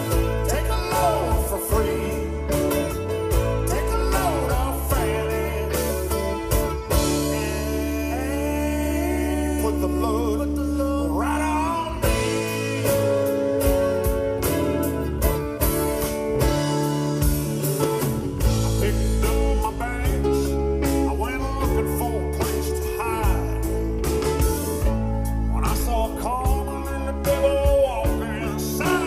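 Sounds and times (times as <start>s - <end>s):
drums beating: 0.0s - 7.6s, 12.0s - 29.0s
person singing: 0.0s - 15.7s, 16.4s - 29.0s
live rock band playing: 0.0s - 29.0s.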